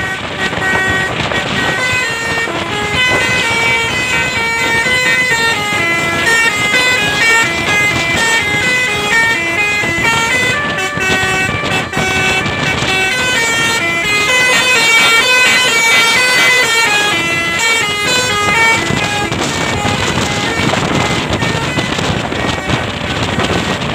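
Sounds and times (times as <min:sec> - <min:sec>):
bus horns playing melody: 0:00.0 - 0:23.9.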